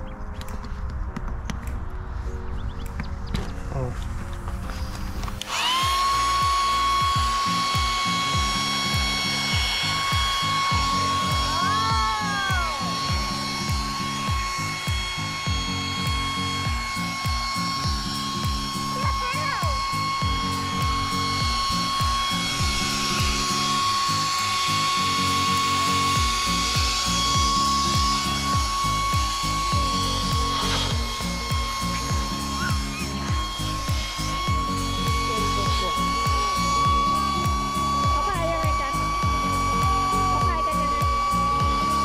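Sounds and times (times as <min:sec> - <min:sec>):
background music with steady beat: 0:00.0 - 0:42.0
electric air pump whine: 0:00.0 - 0:42.0.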